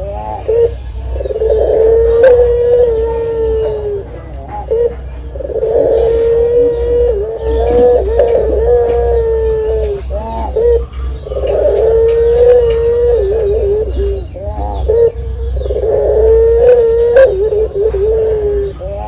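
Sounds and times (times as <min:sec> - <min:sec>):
dove cooing: 0:00.0 - 0:19.0
low hum: 0:00.0 - 0:19.0.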